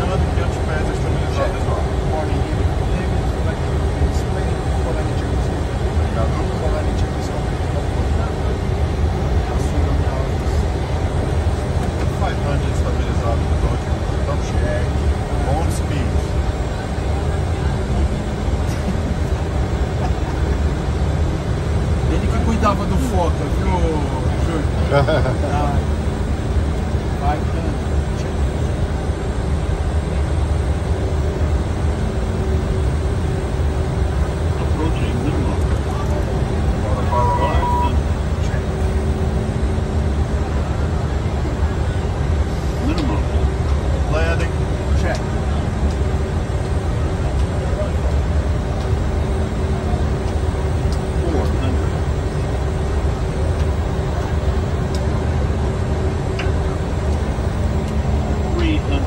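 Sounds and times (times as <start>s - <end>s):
aircraft cockpit rumble: 0.0s - 59.0s
faint steady hum: 0.0s - 59.0s.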